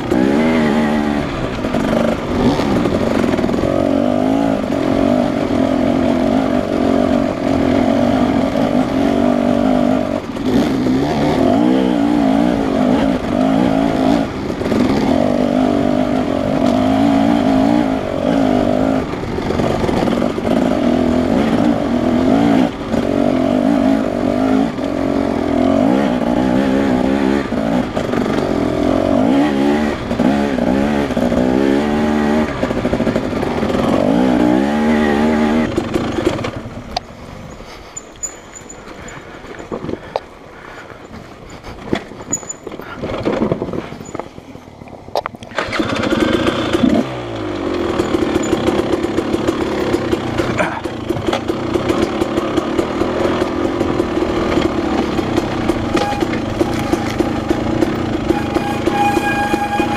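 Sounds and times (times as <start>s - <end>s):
dirt bike engine revving: 0.0s - 43.9s, 45.5s - 59.9s.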